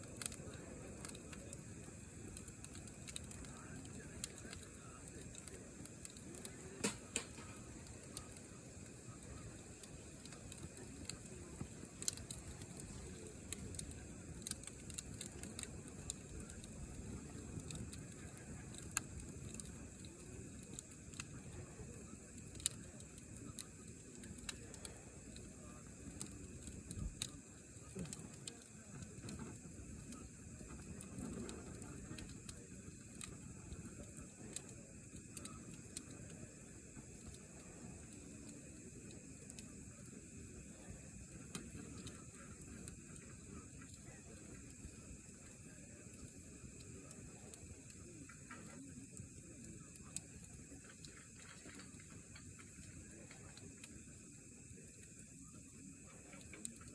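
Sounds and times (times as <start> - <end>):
campfire crackling: 0.0 - 56.9.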